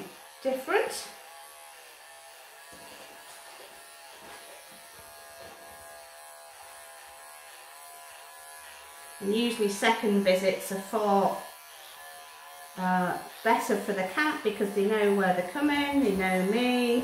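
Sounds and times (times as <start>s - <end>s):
electric clippers running: 0.0s - 17.0s.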